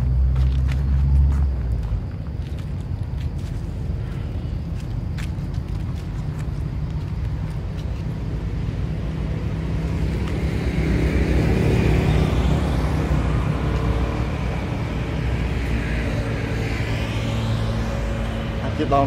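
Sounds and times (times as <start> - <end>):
vehicle engine hum passing: 0.0 - 19.0.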